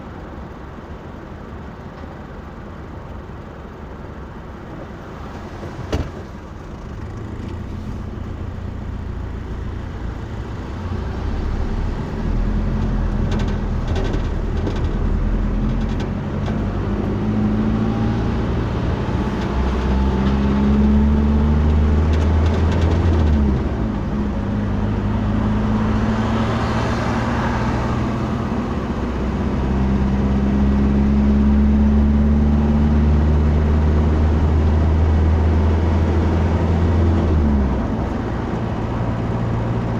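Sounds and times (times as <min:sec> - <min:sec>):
road noise: 0:00.0 - 0:39.9
vehicle engine drone: 0:00.0 - 0:39.9.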